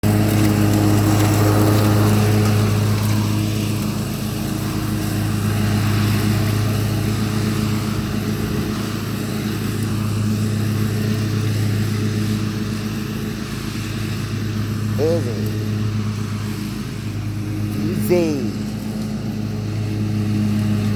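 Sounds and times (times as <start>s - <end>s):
riding lawnmower engine humming: 0.0s - 20.9s.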